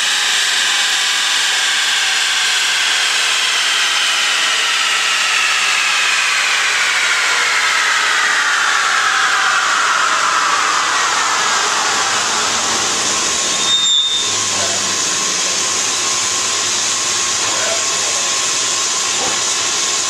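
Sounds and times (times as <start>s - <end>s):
drive whine: 0.0s - 20.0s.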